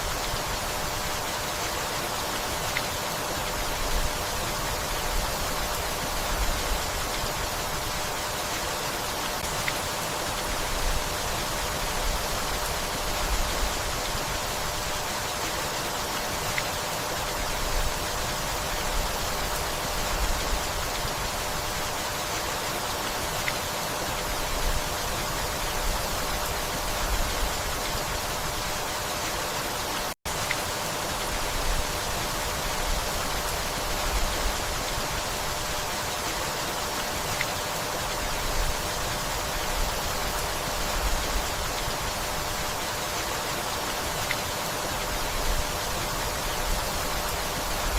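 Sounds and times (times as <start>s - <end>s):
steady rainfall: 0.0s - 47.9s.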